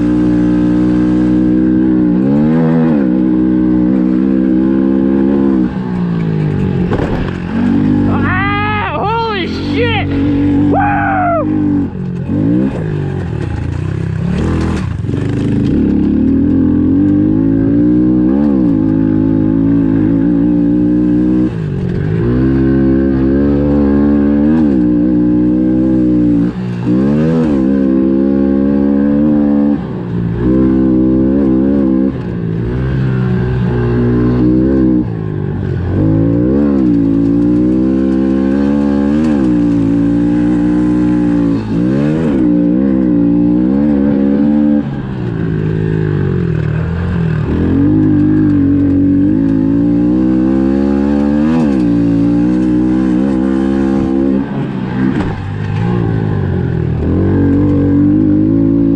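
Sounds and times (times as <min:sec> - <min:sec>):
motorbike engine revving: 0:00.0 - 0:58.9.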